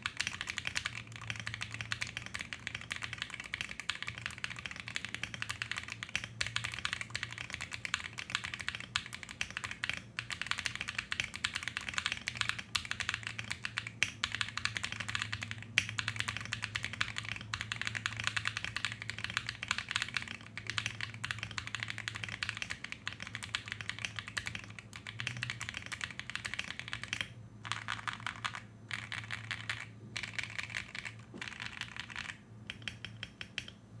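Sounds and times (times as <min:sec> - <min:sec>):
typing on mechanical keyboard: 0:00.0 - 0:33.8
faint low hum: 0:00.0 - 0:34.0.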